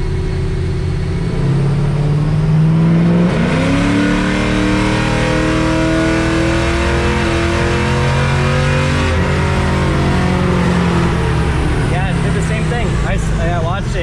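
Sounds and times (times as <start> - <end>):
engine revving at full throttle: 1.1 - 14.0.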